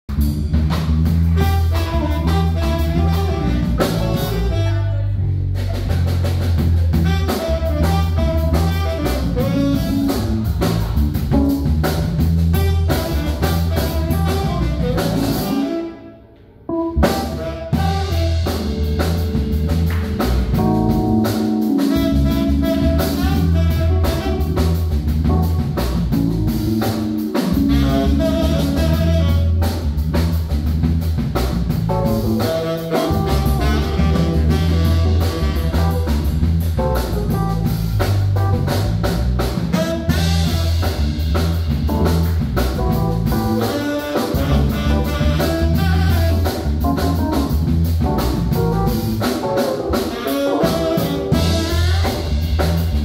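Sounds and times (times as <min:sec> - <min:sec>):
steady bass line: 0:00.1 - 0:15.7, 0:16.7 - 0:53.0
live band playing: 0:00.1 - 0:53.0
saxophone: 0:01.1 - 0:11.6, 0:12.4 - 0:30.4, 0:31.9 - 0:38.7, 0:39.4 - 0:53.0.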